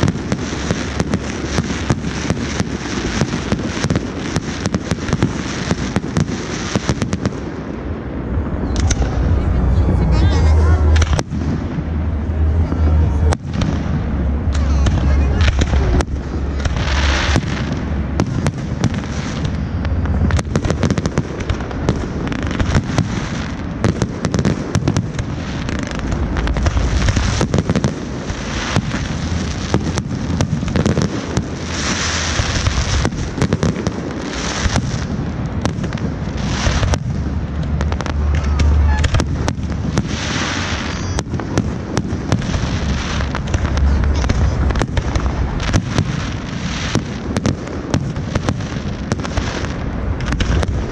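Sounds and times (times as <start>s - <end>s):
deep firework booms: 0.0s - 10.1s, 10.8s - 50.9s
fireworks banging and crackling: 0.0s - 50.9s.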